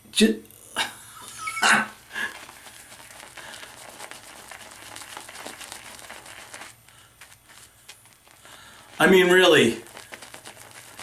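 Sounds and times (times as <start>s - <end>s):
shaving brush wet crackling: 2.0s - 11.0s.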